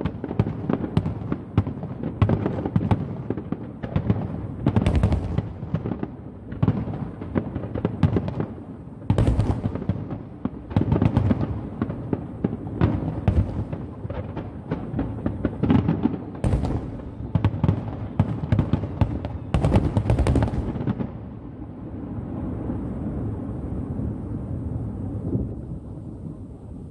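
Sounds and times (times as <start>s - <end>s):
fireworks bursting: 0.0s - 26.6s.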